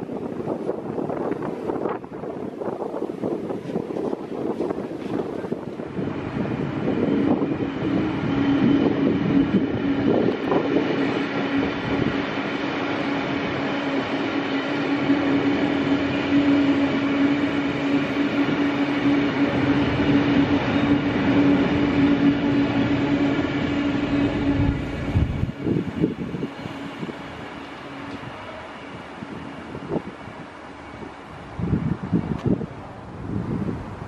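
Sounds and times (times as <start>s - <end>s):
train steady hum: 0.0s - 34.0s
train wheels on rails: 0.0s - 34.0s.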